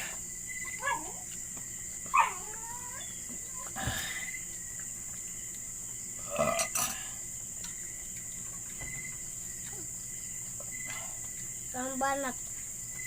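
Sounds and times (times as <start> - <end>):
high insect chirring: 0.0 - 13.0.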